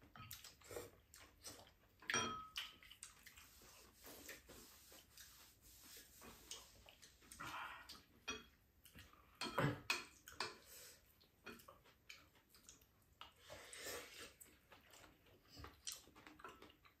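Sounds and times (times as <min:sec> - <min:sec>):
chewing: 0:00.0 - 0:05.4, 0:06.3 - 0:08.2, 0:10.0 - 0:17.0.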